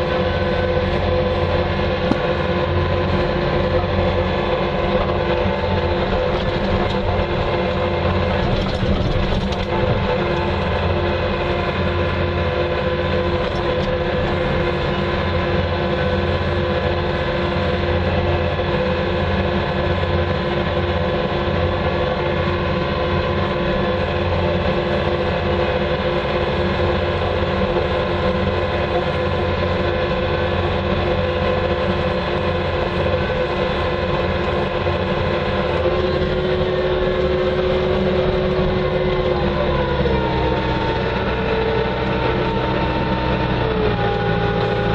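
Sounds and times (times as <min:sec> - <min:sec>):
loader engine rumble and whine: 0:00.0 - 0:44.9.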